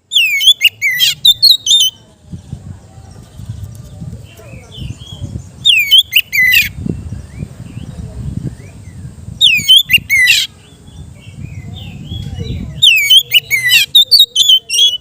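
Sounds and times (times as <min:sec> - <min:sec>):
bird singing: 0:00.0 - 0:15.0.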